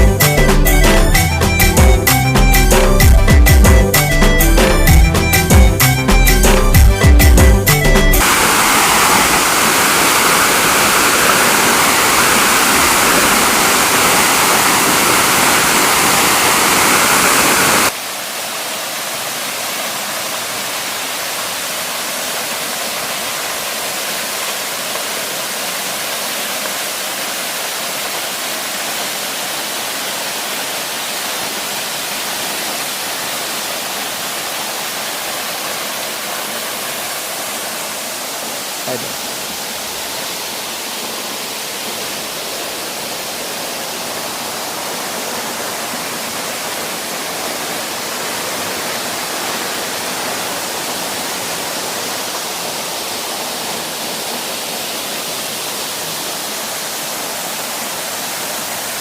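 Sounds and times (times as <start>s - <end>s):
waterfall rushing water: 8.2s - 59.0s.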